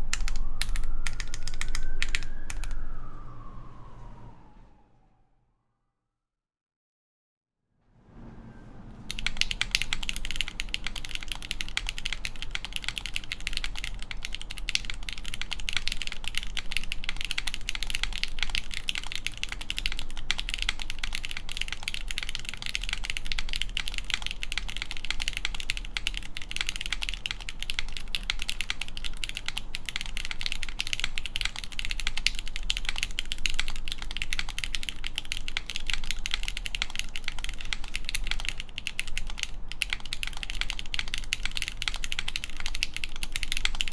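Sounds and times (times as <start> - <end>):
fast mechanical keyboard typing: 0.0 - 2.8, 9.1 - 43.9
steady low hum: 0.0 - 4.6, 8.1 - 43.9.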